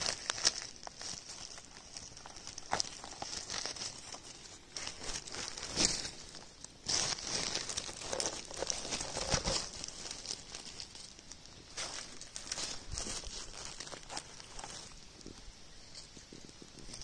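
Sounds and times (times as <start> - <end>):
dry leaves and twigs crackling: 0.0 - 17.0.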